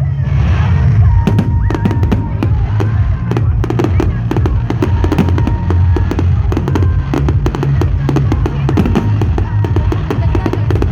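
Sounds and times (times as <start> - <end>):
deep continuous rumble: 0.0 - 10.9
fireworks crackling and popping: 0.5 - 10.9.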